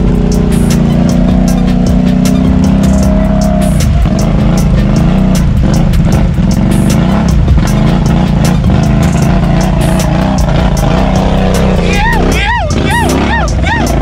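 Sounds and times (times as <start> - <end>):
four-wheeler engine revving: 0.0 - 14.0.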